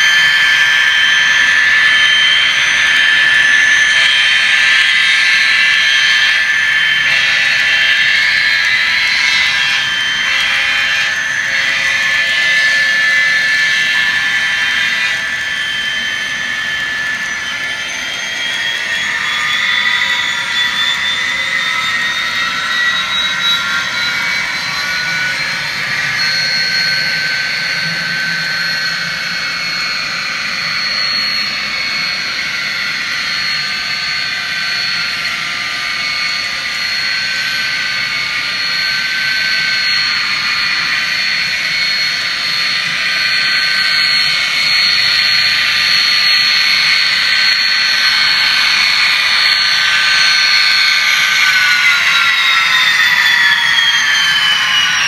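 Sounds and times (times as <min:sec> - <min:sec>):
high whine: 0:00.0 - 0:55.0.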